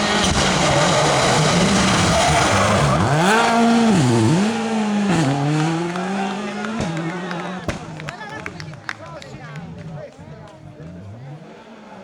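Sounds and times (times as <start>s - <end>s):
rally car engine revving: 0.0s - 12.0s
tyre noise: 0.0s - 12.0s.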